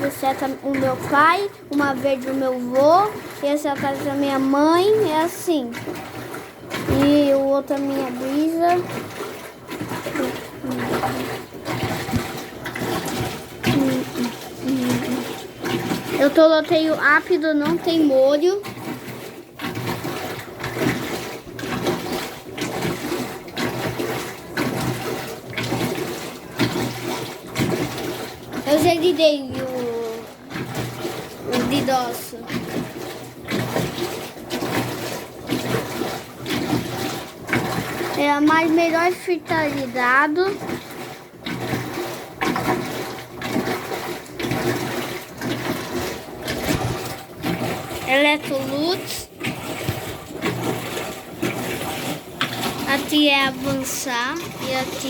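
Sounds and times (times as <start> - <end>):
washing machine water sloshing: 0.0 - 55.0.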